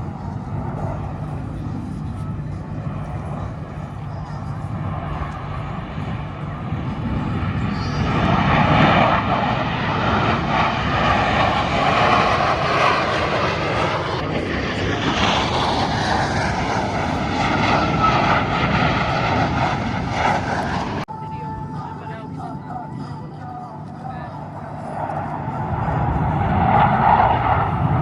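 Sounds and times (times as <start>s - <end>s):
airplane engine noise: 0.0s - 28.0s.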